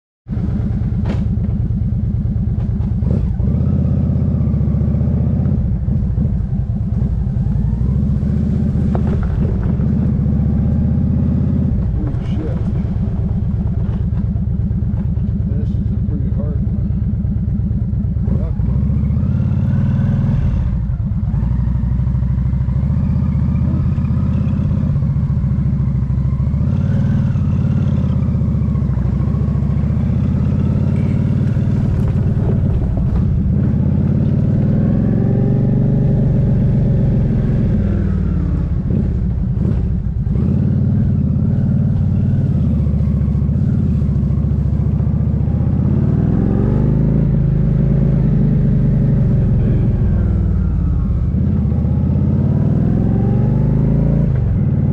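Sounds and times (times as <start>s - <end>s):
motorcycle engine revving: 0.3s - 54.9s.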